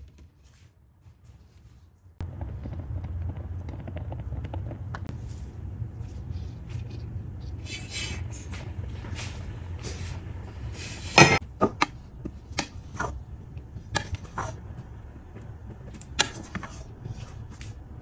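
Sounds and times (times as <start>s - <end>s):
steady low hum: 0.5s - 18.0s.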